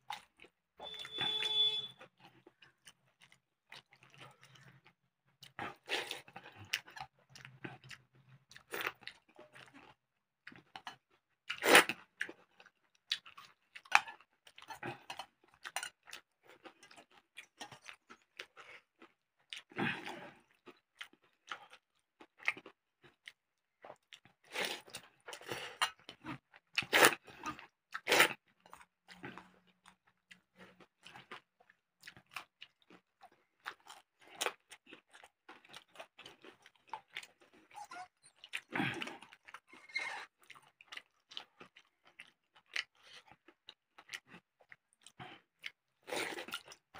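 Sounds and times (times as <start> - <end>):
crunching and chewing food: 0.0 - 46.9.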